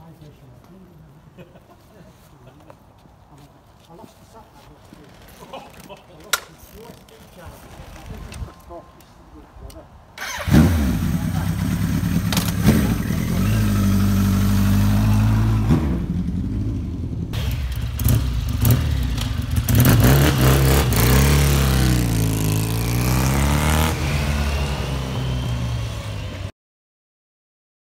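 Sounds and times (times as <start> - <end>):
motorcycle engines idling and revving: 0.7 - 26.5.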